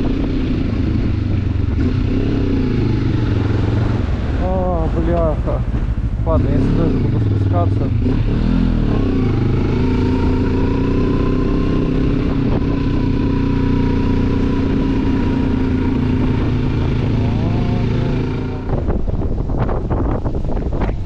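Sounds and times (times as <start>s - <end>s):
wind noise on microphone: 0.0s - 4.7s, 5.7s - 21.0s
motorcycle engine running: 0.0s - 21.0s.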